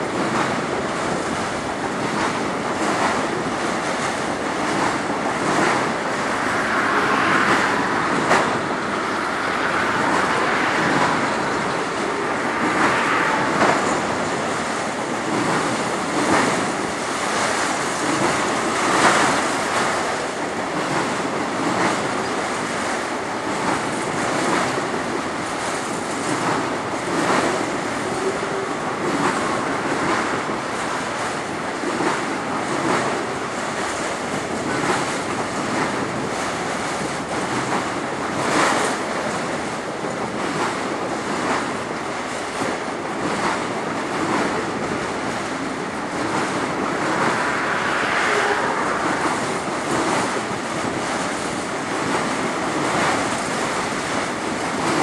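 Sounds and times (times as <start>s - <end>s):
rail clacks: 0.0s - 55.0s
train wheels rumbling on rail: 0.0s - 55.0s
wind buffeting microphone: 0.0s - 55.0s.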